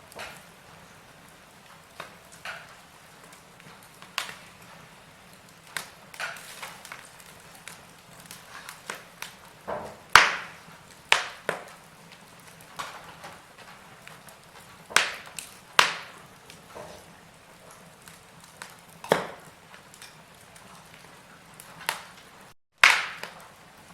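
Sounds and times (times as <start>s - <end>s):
wood fire crackling: 0.0s - 23.9s
sharp pops of fire: 0.1s - 23.9s.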